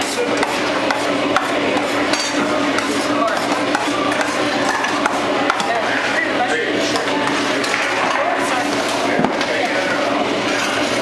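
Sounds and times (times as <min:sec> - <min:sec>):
busy kitchen din: 0:00.0 - 0:11.0.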